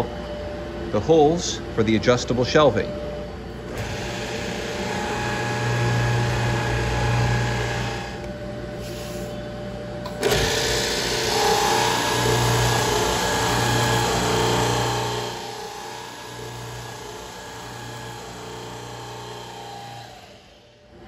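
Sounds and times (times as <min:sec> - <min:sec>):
boring machine motor hum: 0:00.0 - 0:21.0.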